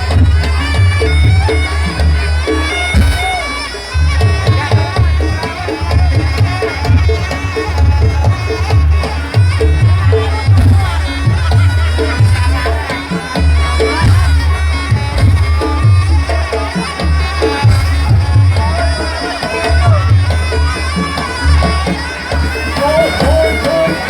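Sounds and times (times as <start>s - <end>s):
shawm melody: 0.0s - 24.0s.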